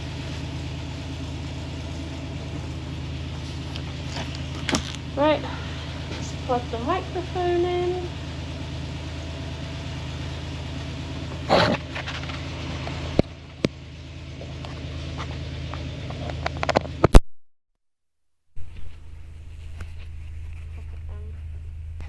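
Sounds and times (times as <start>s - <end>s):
low hum: 0.0s - 17.3s, 18.3s - 22.0s.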